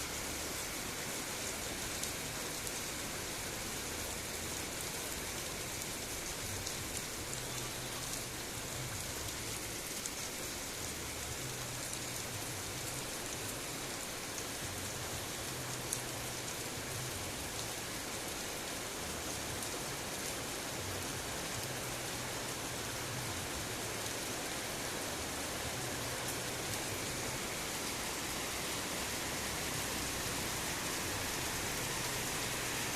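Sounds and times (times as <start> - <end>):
heavy rain hissing: 0.0 - 32.9.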